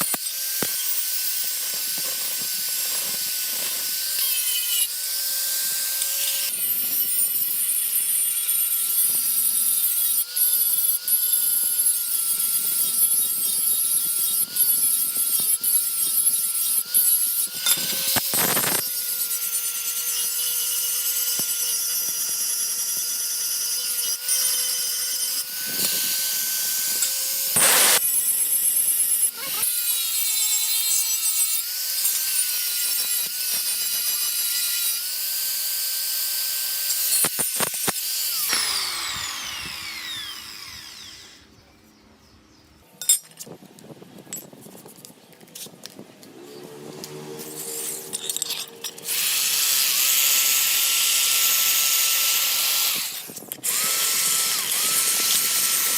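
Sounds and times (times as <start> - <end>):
electric grinder motor whine: 0.0 - 28.1, 31.2 - 41.6, 46.2 - 55.9
grinder scraping steel: 0.0 - 41.6, 43.0 - 55.9.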